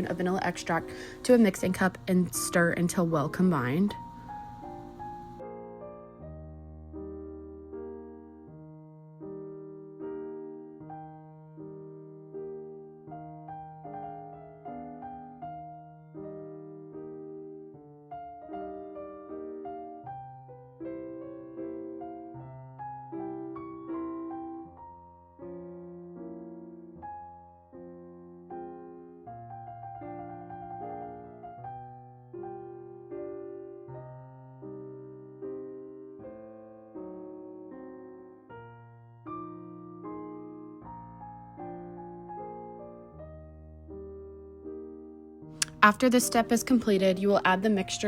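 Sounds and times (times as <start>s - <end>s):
gentle piano music: 0.0s - 48.0s.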